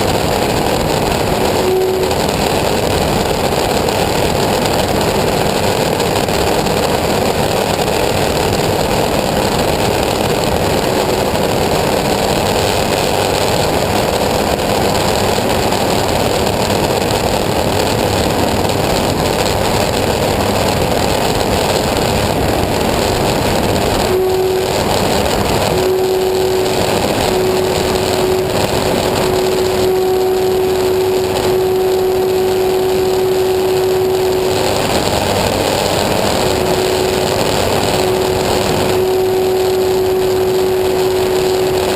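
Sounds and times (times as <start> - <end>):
aircraft engine running: 0.0 - 41.9
steady pitched hum: 0.0 - 41.9.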